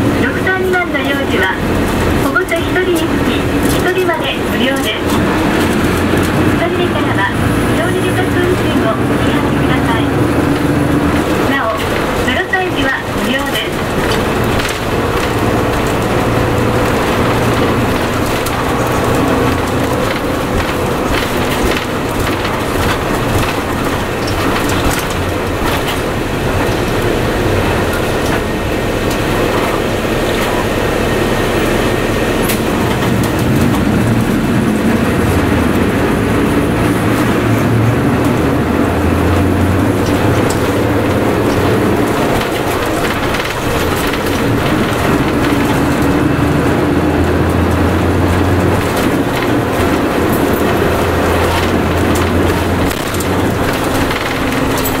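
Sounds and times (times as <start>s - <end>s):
bus body rattle: 0.0s - 55.0s
diesel bus engine drone: 0.0s - 55.0s
road noise: 0.0s - 55.0s.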